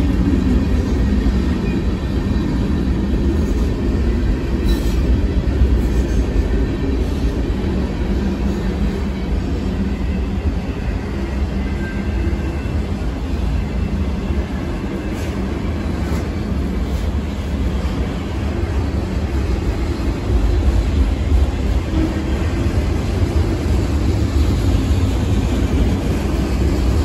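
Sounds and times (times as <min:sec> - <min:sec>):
railroad cars rumbling on track: 0:00.0 - 0:27.0.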